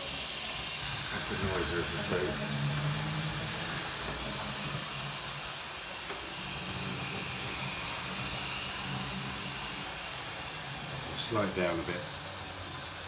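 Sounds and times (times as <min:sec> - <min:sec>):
hiss: 0:00.0 - 0:13.0
model locomotive motors humming: 0:00.0 - 0:13.0.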